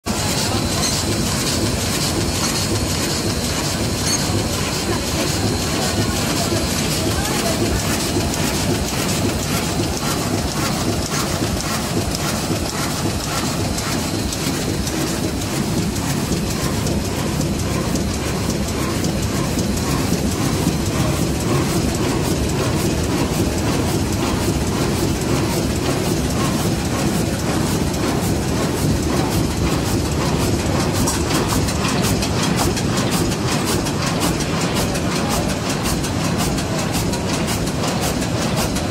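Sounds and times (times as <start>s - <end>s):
die-cutting machine clatter: 0.1s - 38.9s.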